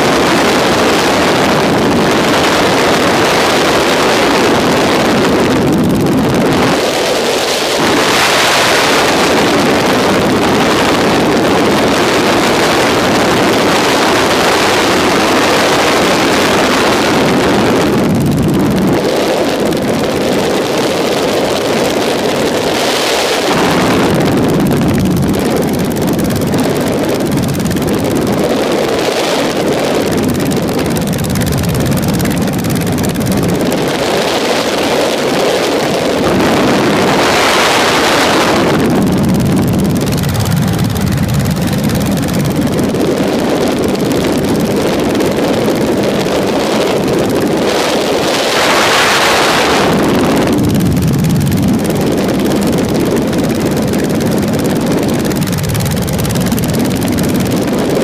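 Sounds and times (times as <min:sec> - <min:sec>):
aircraft engine running: 0:00.0 - 0:58.0
wind rush over microphone: 0:00.0 - 0:58.0.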